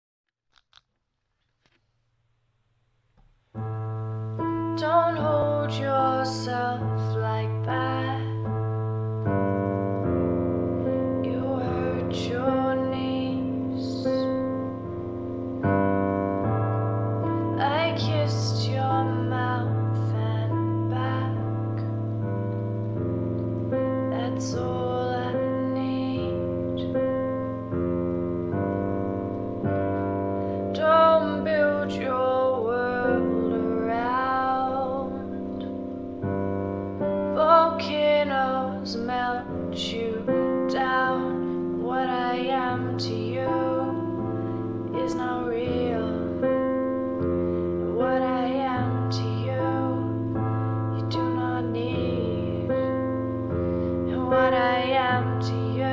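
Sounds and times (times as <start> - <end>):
woman singing wordless melody: 3.7 - 55.9.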